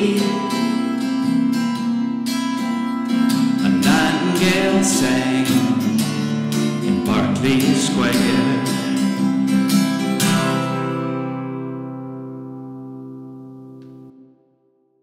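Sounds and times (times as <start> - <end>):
guitar chords strummed and plucked: 0.0 - 14.8.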